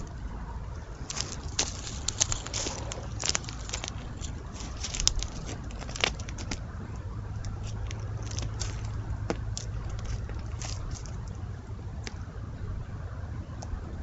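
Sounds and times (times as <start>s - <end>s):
crackling of dry leaves and twigs: 0.0s - 12.6s
steady low hum: 0.0s - 14.0s.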